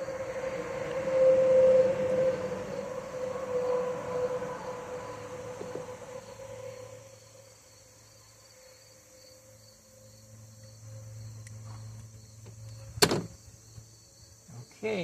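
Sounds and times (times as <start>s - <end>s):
high-pitched whine: 0.0s - 13.8s.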